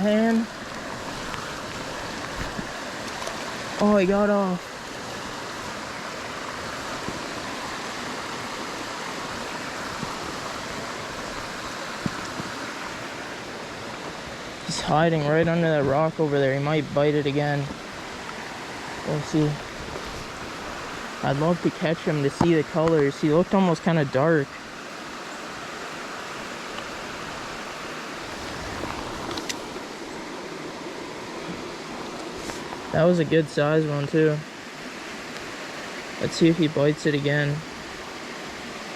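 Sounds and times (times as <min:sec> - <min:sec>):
creek water running: 0:00.0 - 0:38.9.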